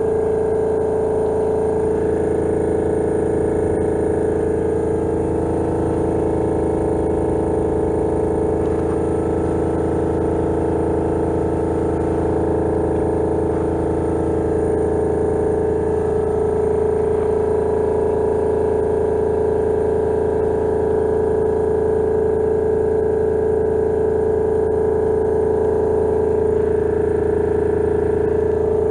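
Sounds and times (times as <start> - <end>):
scooter engine running steadily: 0.0 - 28.9.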